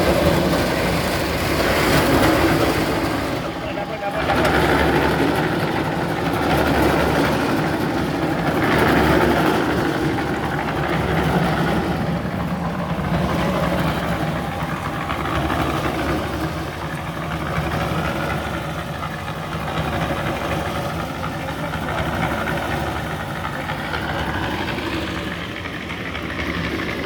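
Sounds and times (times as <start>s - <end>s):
large engine running: 0.0s - 27.0s.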